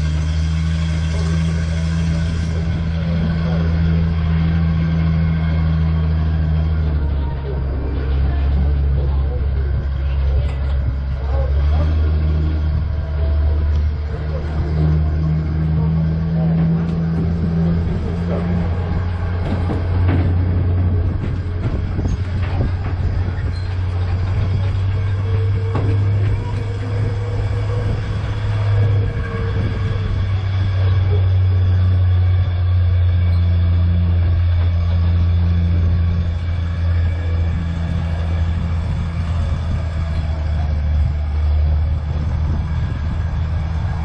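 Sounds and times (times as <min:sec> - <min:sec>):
tram engine drone: 0:00.0 - 0:44.0.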